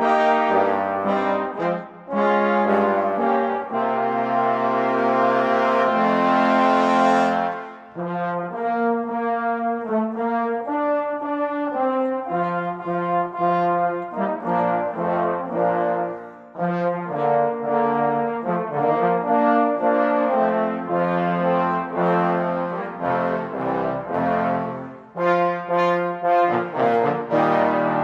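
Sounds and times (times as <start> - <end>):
brass ensemble playing: 0.0 - 28.0.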